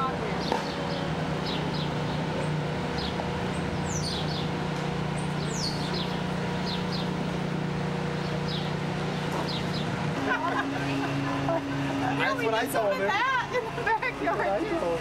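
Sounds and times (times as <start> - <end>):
birds chirping: 0.0 - 14.8
steady low hum: 0.0 - 15.0.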